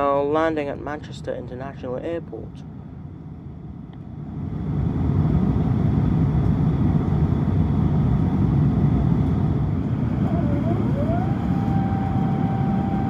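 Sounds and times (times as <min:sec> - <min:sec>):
airplane cabin engine rumble: 0:00.8 - 0:13.0.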